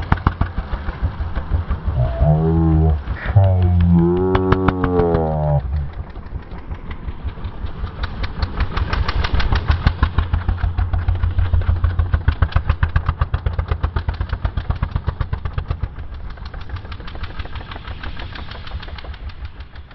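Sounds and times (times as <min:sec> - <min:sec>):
small engine running at low revs: 0:00.0 - 0:19.9.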